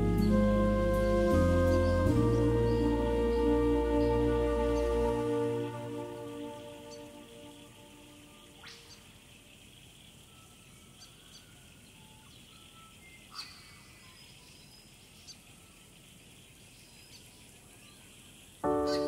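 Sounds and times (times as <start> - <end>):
steady high hiss: 0.0 - 19.0
bird chirps: 0.1 - 19.0.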